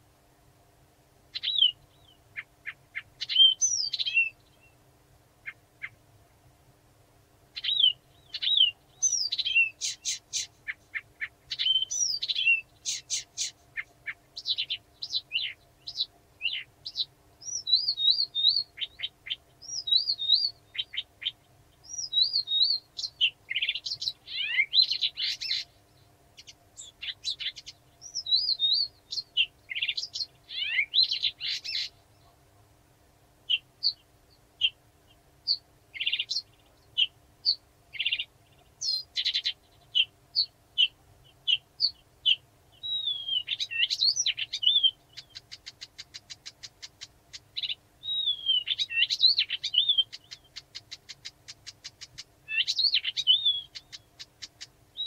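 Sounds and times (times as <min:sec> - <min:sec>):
warbler singing: 0:01.3 - 0:04.8, 0:07.5 - 0:32.4, 0:33.5 - 0:55.0.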